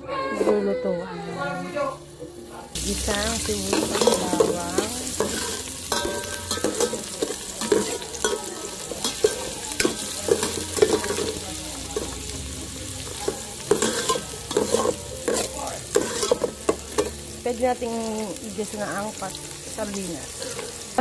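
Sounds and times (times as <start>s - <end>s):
onion and garlic sizzling in oil: 0.2s - 21.0s.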